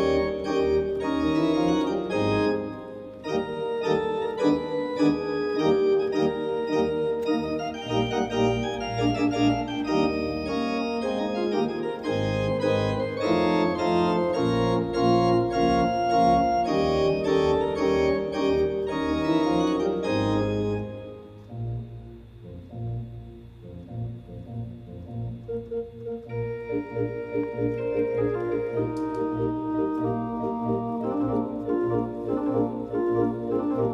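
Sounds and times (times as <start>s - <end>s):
organ playing sustained chords: 0.0s - 33.9s.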